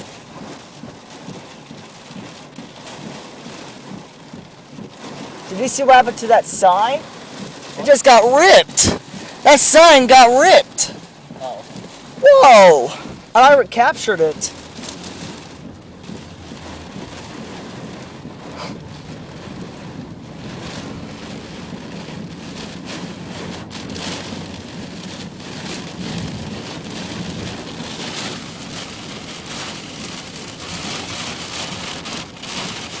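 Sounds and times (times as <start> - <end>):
heavy rain: 0.0 - 33.0
rain pattering on a surface: 0.0 - 33.0.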